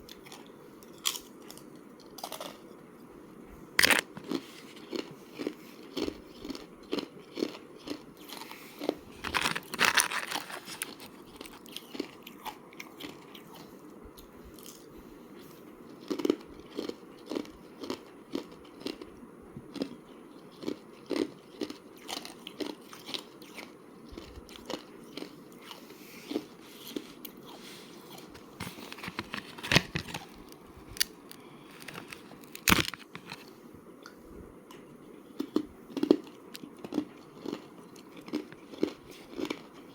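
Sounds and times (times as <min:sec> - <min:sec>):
ice being chewed: 0:00.1 - 0:02.7, 0:03.8 - 0:14.9, 0:15.8 - 0:19.1, 0:19.7 - 0:33.5, 0:35.4 - 0:39.9.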